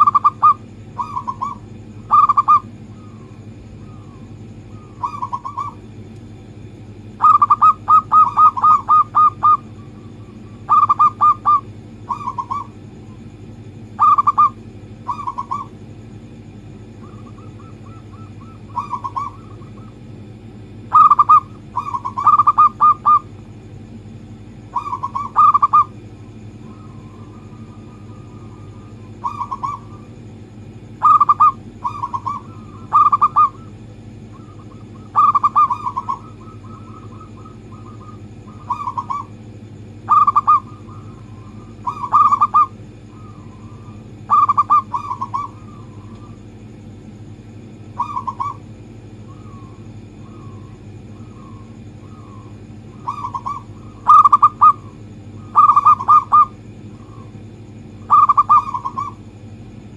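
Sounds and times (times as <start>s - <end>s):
dove cooing: 0.0s - 23.4s, 24.6s - 46.6s, 47.8s - 59.6s
steady low hum: 0.0s - 59.9s.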